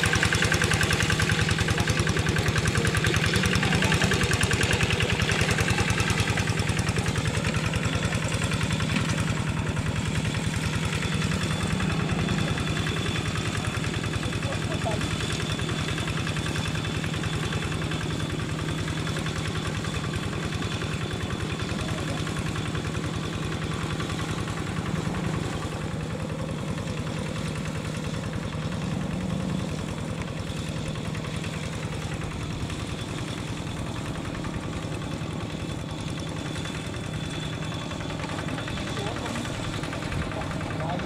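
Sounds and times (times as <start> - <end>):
locomotive engine low drone: 0.0 - 41.0.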